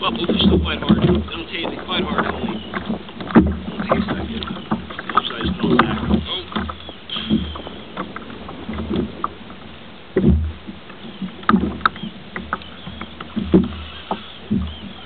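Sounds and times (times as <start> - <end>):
water slapping hull: 0.0 - 15.0.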